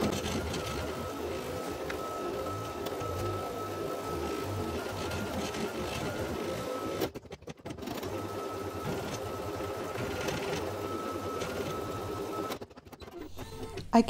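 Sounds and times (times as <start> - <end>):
embroidery machine whirring: 0.0 - 14.0.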